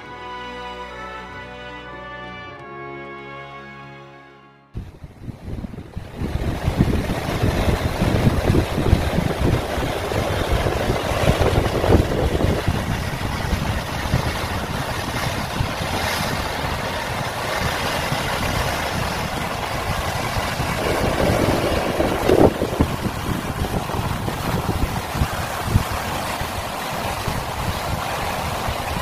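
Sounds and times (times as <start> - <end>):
surf breaking over rocks: 4.8 - 29.0
wind buffeting microphone: 4.8 - 29.0.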